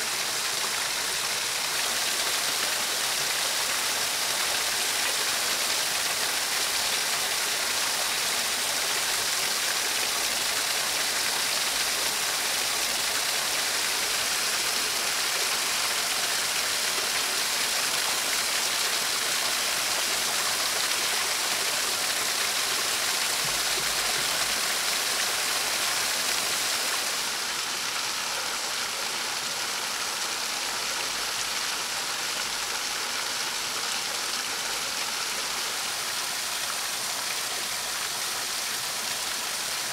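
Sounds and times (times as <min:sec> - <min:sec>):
stream rushing over cascade: 0:00.0 - 0:39.9.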